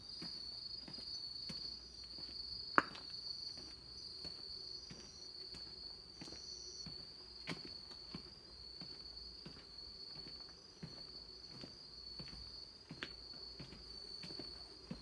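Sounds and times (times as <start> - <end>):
footsteps walking: 0.0 - 15.0
insects trilling: 0.0 - 15.0.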